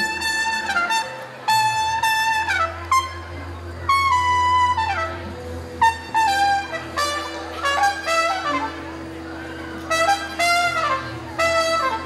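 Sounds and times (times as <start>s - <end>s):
low steady drone: 0.0s - 12.0s
trumpet long bending notes: 0.0s - 12.0s.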